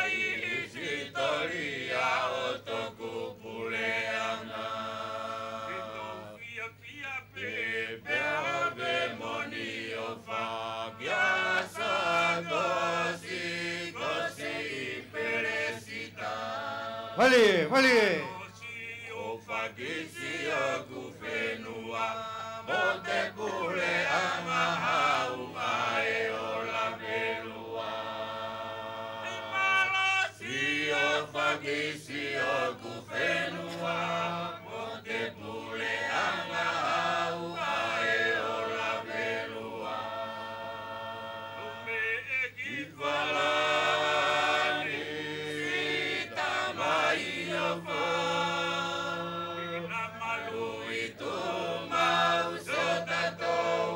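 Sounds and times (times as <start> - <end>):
choir chanting: 0.0 - 6.4, 7.4 - 53.9.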